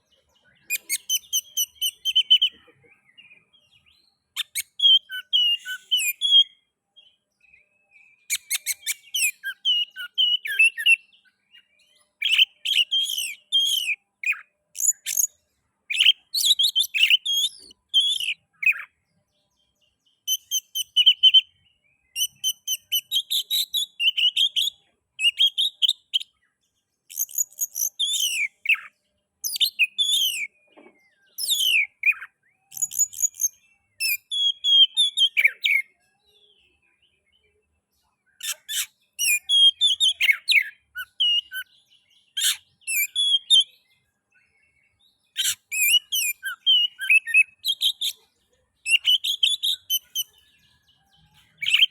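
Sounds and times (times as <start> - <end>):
bird singing varied song: 0.0 - 51.9.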